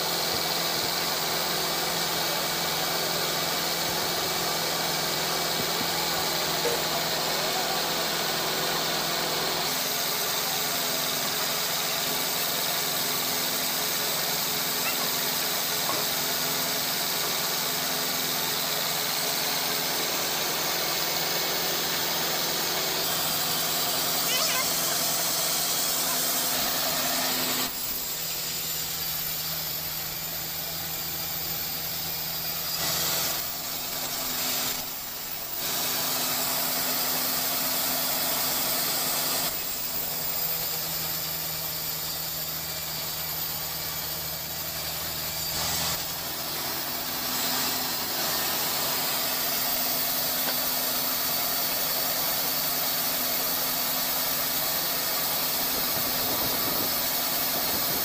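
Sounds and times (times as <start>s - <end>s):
sawmill machinery humming and hissing: 0.0s - 58.0s.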